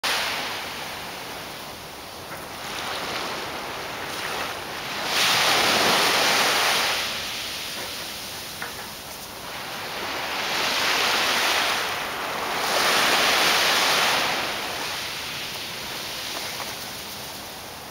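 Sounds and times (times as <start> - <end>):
small waves washing on beach: 0.0 - 17.9.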